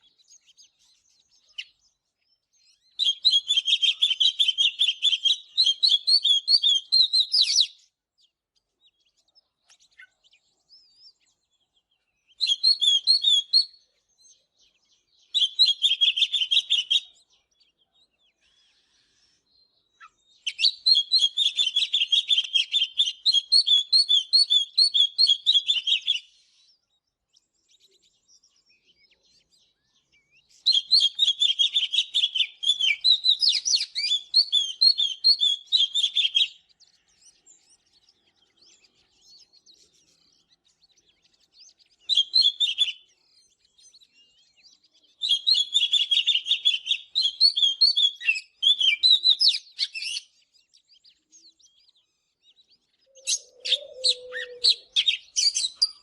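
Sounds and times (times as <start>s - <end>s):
bird singing high chirps: 0.0s - 56.0s.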